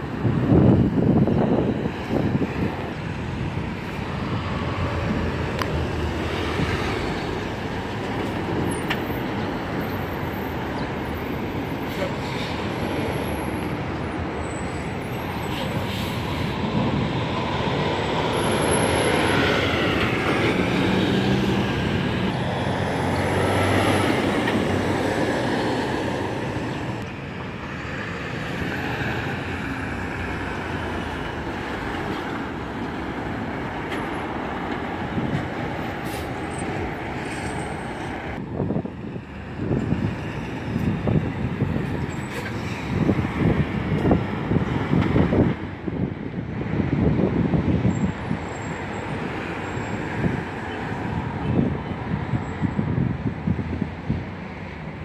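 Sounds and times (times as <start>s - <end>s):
truck engine: 0.0s - 51.6s
road traffic passing: 0.0s - 55.0s.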